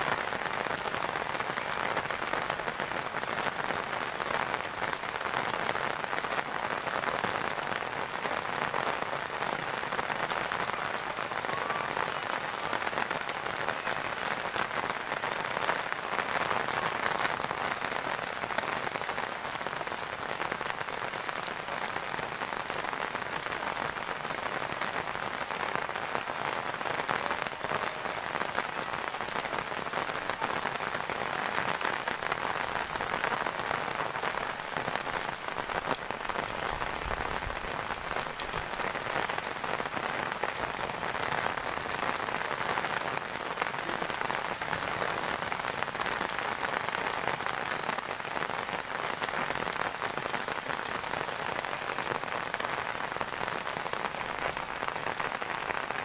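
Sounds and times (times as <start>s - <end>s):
heavy rain on metal roof: 0.0s - 56.0s.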